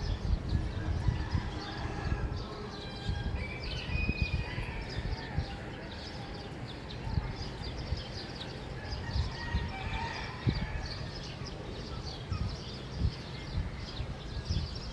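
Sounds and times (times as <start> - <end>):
small birds chirping and trilling: 0.0 - 14.9.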